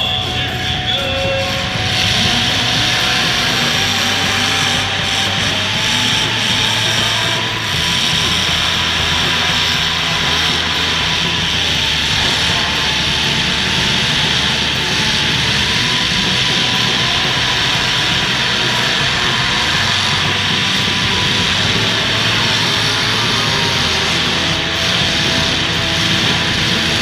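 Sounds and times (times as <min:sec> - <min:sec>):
car engines droning: 0:00.0 - 0:27.0.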